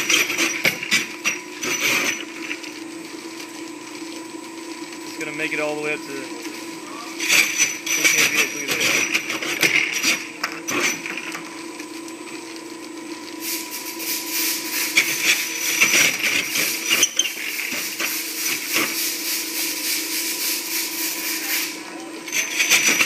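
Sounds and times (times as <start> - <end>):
motor whine: 0.0 - 23.0.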